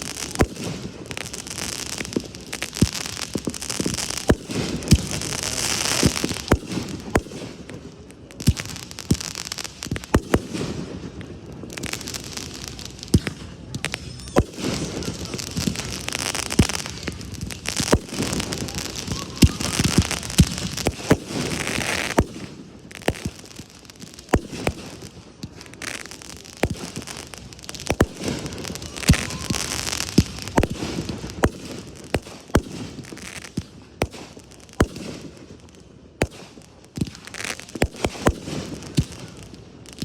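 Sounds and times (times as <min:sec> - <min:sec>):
fireworks bangs: 0:00.0 - 0:40.0
fireworks hissing and crackling: 0:00.0 - 0:40.0.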